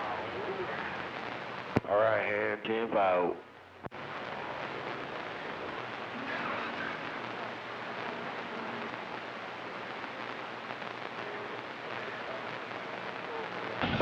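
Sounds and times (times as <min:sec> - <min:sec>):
faint weak radio tones: 0:00.0 - 0:14.0
radio receiver hiss: 0:00.0 - 0:14.0.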